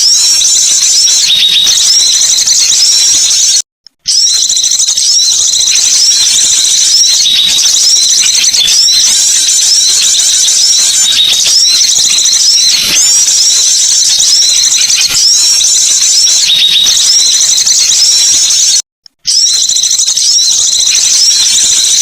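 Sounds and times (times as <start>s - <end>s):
many birds chirping: 0.0s - 22.0s.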